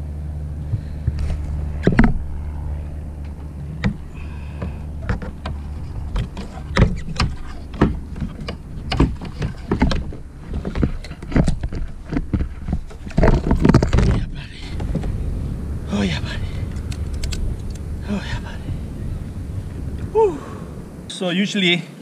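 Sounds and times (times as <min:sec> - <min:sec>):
low steady rumble: 0:00.0 - 0:21.2.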